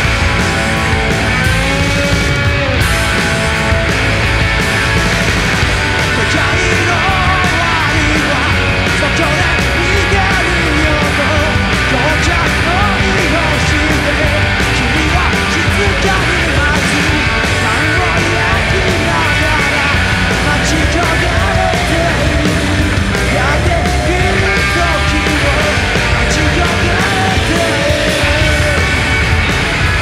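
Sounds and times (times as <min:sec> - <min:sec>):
drums: 0:00.0 - 0:30.0
electric bass: 0:00.0 - 0:30.0
live punk rock band: 0:00.0 - 0:30.0.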